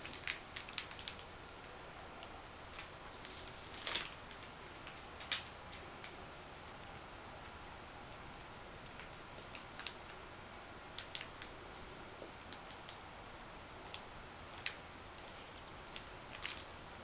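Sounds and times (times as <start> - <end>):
faint room hiss: 0.0 - 17.0.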